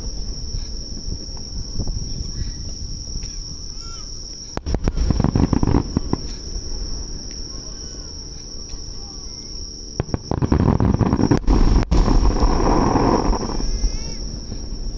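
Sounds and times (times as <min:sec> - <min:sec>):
fireworks booms and cracks: 0:00.0 - 0:09.4, 0:10.0 - 0:14.9
insects trilling: 0:00.0 - 0:14.9.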